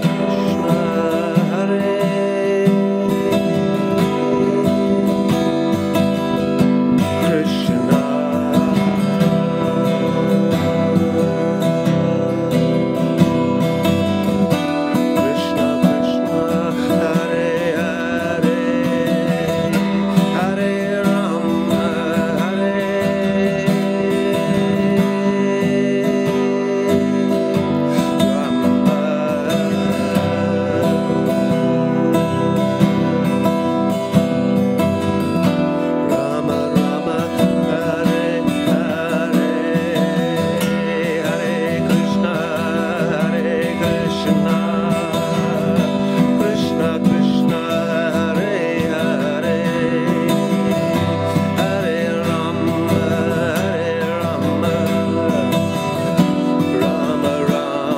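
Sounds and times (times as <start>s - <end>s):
acoustic guitar strumming: 0.0s - 57.9s.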